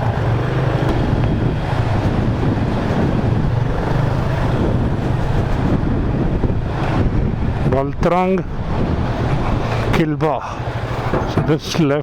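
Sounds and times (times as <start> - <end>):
motorcycle engine humming: 0.0 - 9.9, 10.5 - 12.0
wind buffeting microphone: 0.0 - 12.0.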